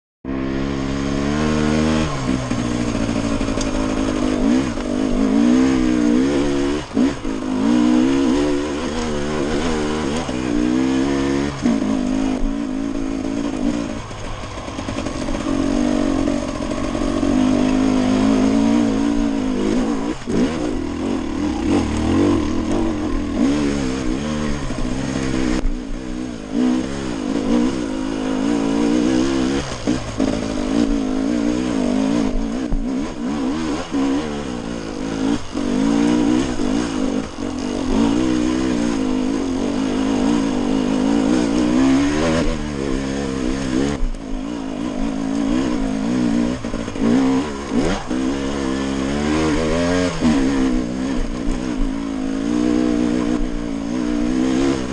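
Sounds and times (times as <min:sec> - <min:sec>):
dirt bike engine revving: 0:00.3 - 0:54.9.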